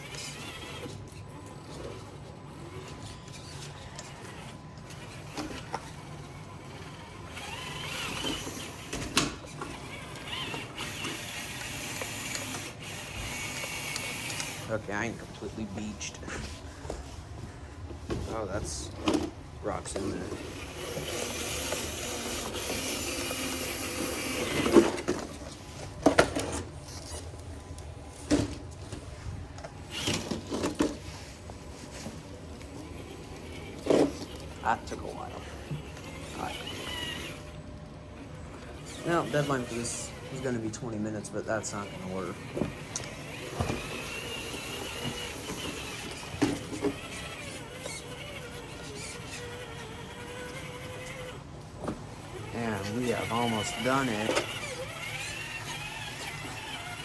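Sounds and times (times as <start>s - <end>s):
electric drivetrain whirring: 0.0s - 57.0s
small electric motor whining: 0.0s - 57.0s
tyres scrabbling on dirt and rock: 7.2s - 57.0s.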